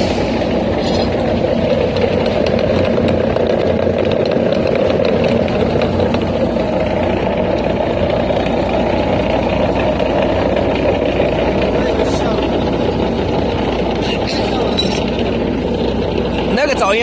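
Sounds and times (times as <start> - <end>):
heavy truck running: 0.0 - 17.0
steady gear hum: 0.0 - 17.0.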